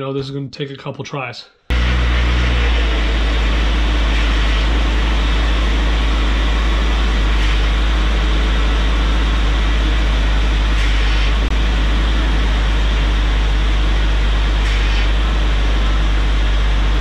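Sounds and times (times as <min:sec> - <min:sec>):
engine running: 0:01.7 - 0:17.0.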